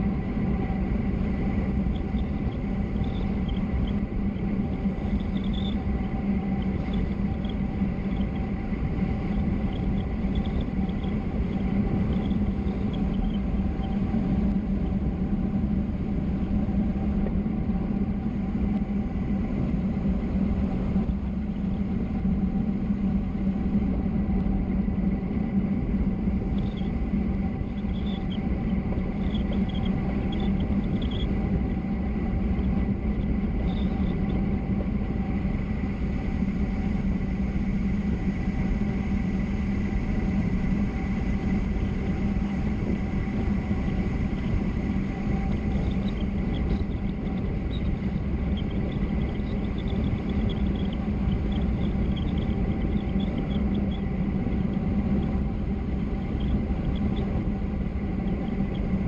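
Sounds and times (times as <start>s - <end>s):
faint high whine: 0.0s - 59.0s
rushing wind: 0.0s - 59.0s.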